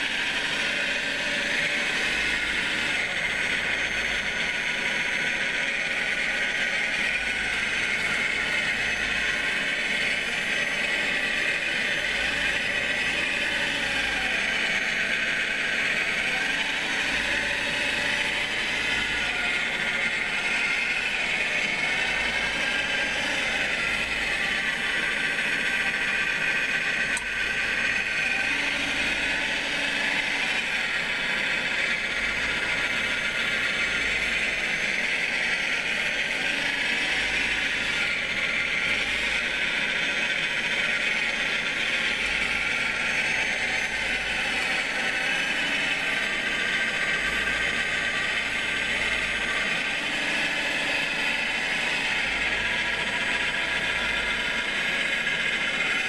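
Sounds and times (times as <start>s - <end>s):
model wheel loader whirring: 0.0s - 56.0s.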